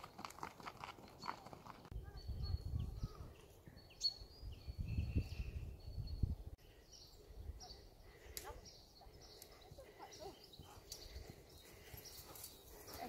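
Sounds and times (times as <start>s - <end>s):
birds chirping: 1.0s - 13.0s.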